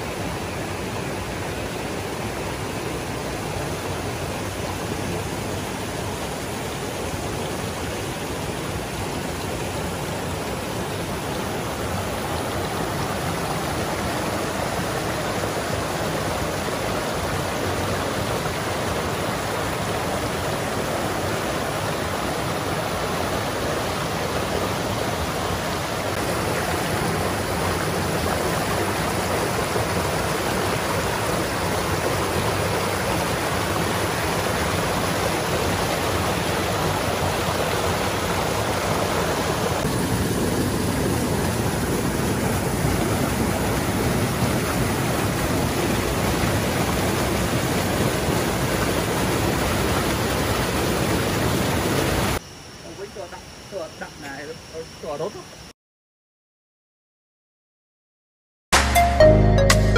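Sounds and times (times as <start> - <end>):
stream rushing over stones: 0.0 - 52.4.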